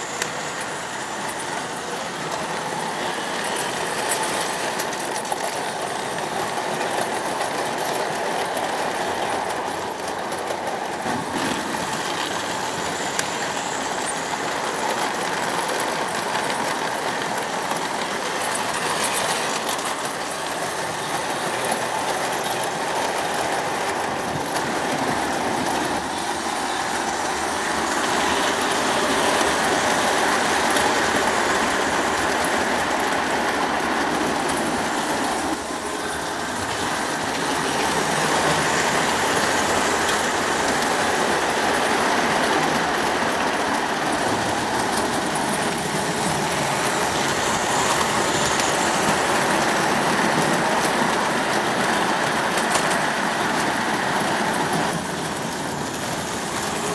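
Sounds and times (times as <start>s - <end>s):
model train motor noise: 0.0s - 56.9s
model train wheels rumbling on rails: 0.0s - 56.9s.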